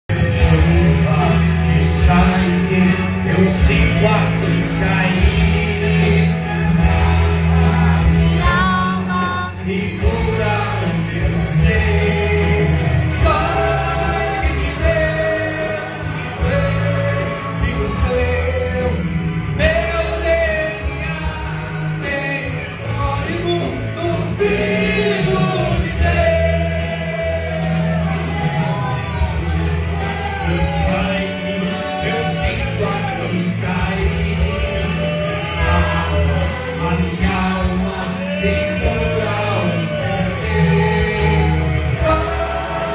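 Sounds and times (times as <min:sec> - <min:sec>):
music with heavy bass: 0:00.0 - 0:42.9
person singing: 0:00.1 - 0:42.9.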